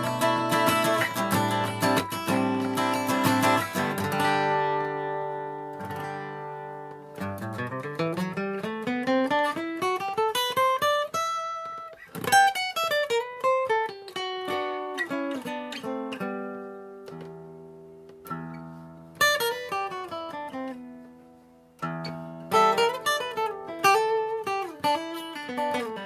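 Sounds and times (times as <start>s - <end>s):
acoustic guitar picked notes: 0.0s - 26.0s.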